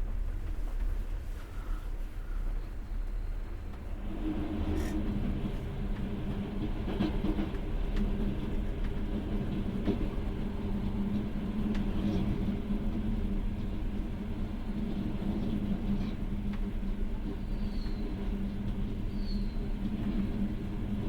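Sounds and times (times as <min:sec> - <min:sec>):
train carriage rolling rumble: 0:00.0 - 0:21.0.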